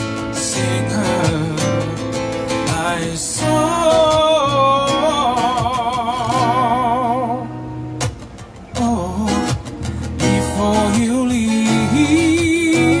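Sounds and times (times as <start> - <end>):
acoustic band with guitar: 0.0 - 13.0.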